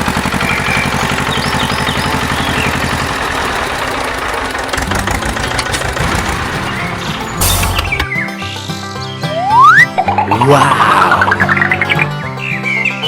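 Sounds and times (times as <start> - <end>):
tractor engine chugging: 0.0 - 13.0.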